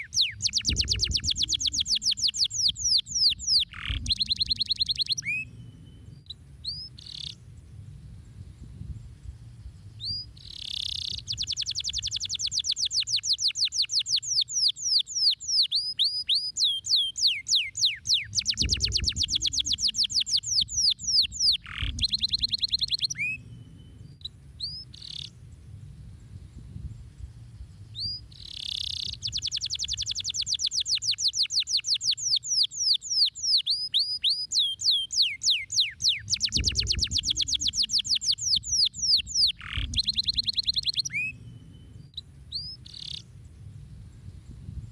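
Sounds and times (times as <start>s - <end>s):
canary singing trills: 0.0s - 7.5s, 9.9s - 25.4s, 27.6s - 43.4s.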